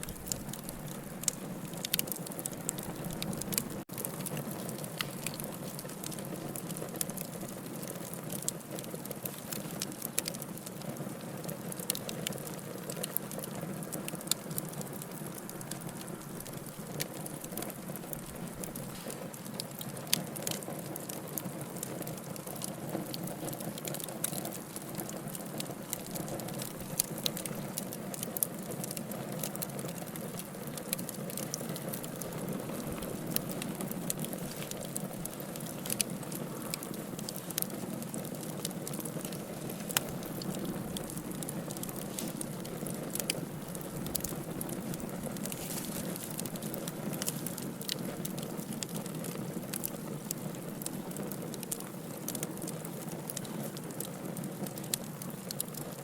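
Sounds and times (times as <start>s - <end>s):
fire crackles and pops: 0.0s - 56.0s
wood fire flames rushing: 0.1s - 56.0s.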